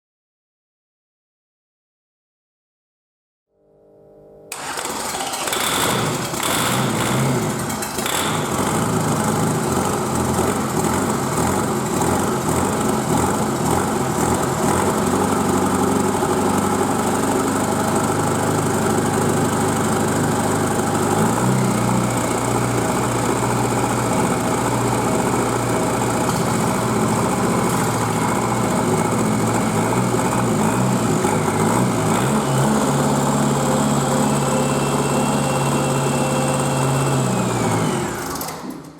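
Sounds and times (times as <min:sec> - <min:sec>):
diesel engine idling: 0:04.6 - 0:37.7.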